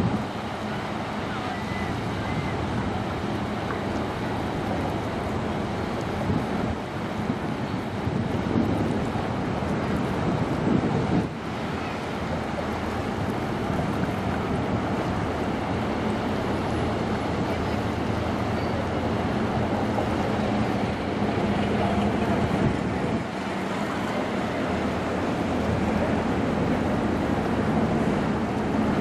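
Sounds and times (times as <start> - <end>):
wind on microphone: 0.0 - 0.4, 1.7 - 18.4, 19.0 - 29.0
ship engine drone: 0.0 - 29.0
water wash along hull: 0.0 - 29.0.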